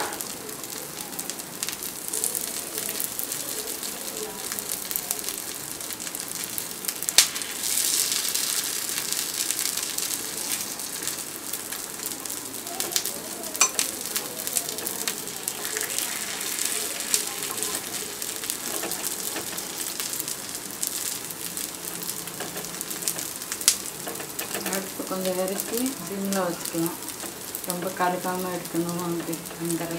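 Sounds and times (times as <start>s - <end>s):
oil sizzling: 0.0s - 29.9s.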